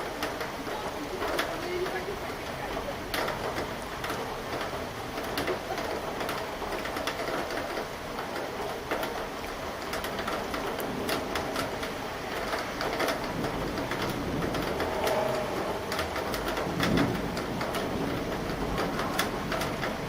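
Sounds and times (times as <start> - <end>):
raindrops tapping on hard surface: 0.0 - 20.0
steady rain falling: 0.0 - 20.0.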